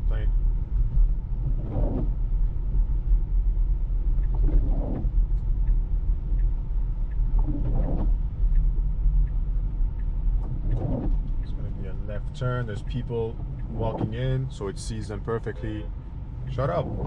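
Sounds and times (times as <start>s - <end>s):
tyres on snow road rumble: 0.0s - 17.0s.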